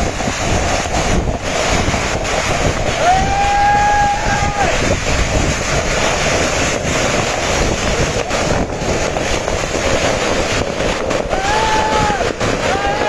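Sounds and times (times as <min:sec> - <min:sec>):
wind gusting on microphone: 0:00.0 - 0:13.0.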